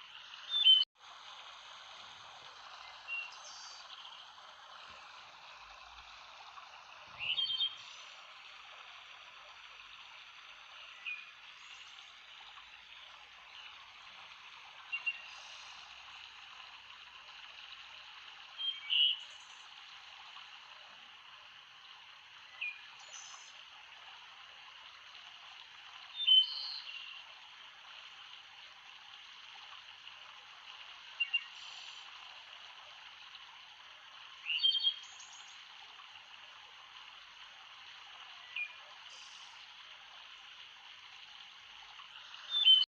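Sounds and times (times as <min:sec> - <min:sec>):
stream flowing: 0:00.0 - 0:42.9.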